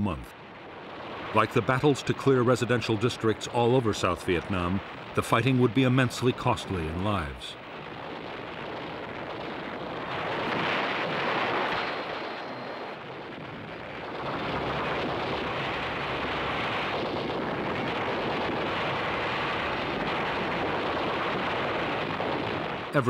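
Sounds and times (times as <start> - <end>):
steady rushing rumbling noise: 0.0 - 23.0.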